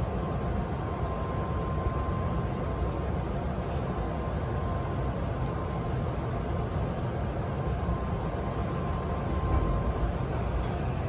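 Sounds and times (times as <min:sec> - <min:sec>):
faint high whine: 0:00.0 - 0:11.0
train equipment hum: 0:00.0 - 0:11.0.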